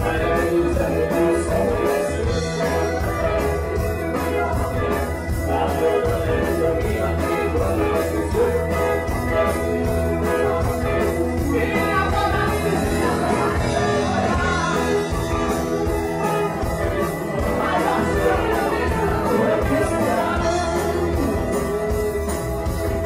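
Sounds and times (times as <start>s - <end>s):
man singing into a microphone: 0.0s - 22.9s
rock band playing: 0.0s - 23.0s.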